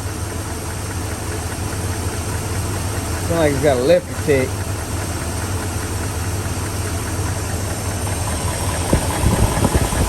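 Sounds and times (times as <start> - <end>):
engine idling with rapid tick: 0.0 - 10.0.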